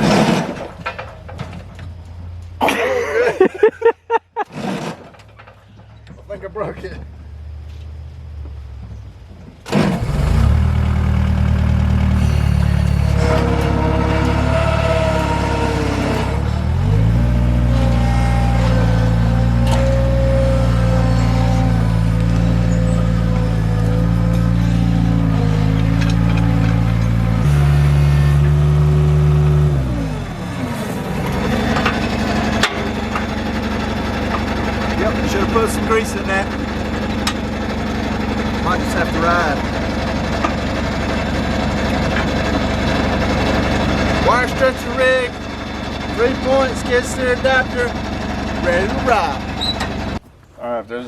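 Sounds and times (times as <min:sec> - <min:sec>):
diesel engine running: 0:05.3 - 0:50.4.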